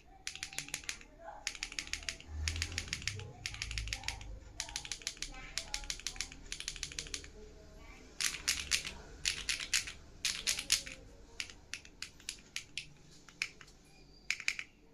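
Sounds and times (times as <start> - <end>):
mechanical keyboard typing: 0.0 - 7.4, 8.2 - 14.8.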